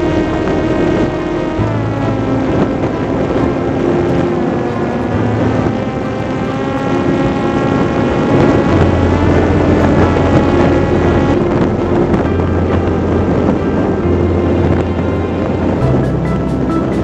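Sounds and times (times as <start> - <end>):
electric model plane motor whining: 0.0 - 17.0
wind rushing over microphone: 0.0 - 17.0.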